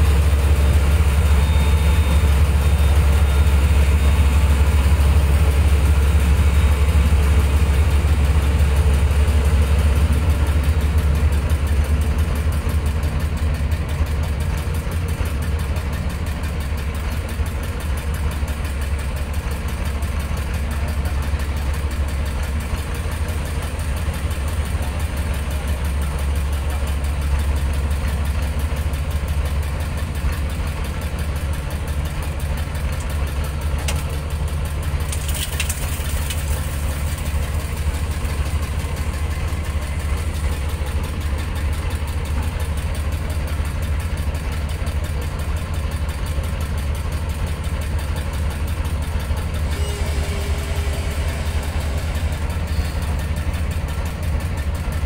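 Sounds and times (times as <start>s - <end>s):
motorboat engine droning: 0.0s - 55.0s.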